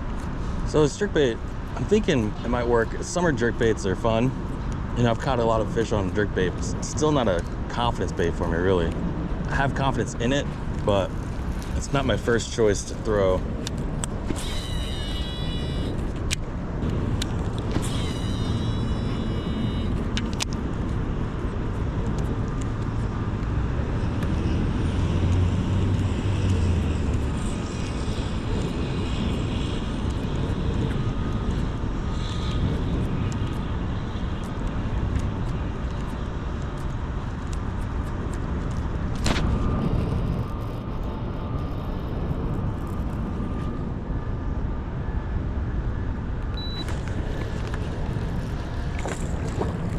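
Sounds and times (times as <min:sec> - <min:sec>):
city road traffic rumble: 0:00.0 - 0:49.9.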